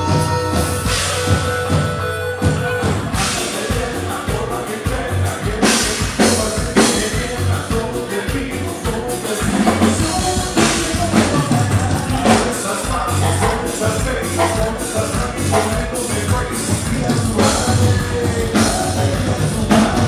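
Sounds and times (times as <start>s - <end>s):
bass line: 0.0s - 20.0s
drum kit with cymbal crashes: 0.0s - 20.0s.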